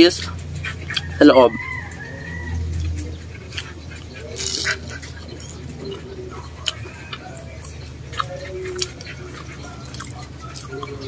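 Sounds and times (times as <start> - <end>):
chewing crispy food: 0.2 - 11.0.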